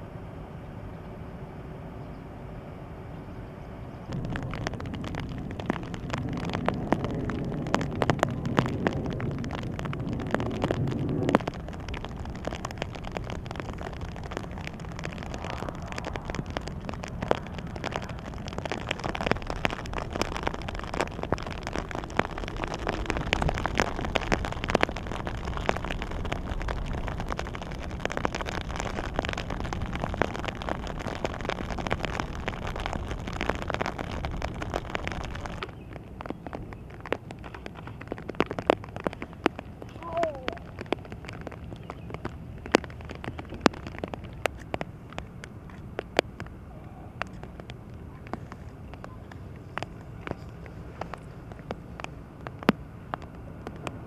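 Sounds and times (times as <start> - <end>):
low rumble: 0.0 - 54.0
heavy rain falling: 4.0 - 54.0.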